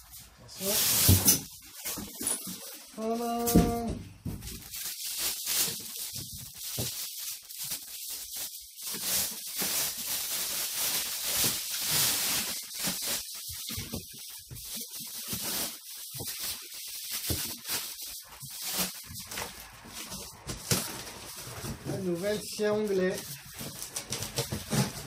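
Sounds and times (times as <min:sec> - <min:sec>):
plastic wrapping crinkling: 0:00.0 - 0:25.0.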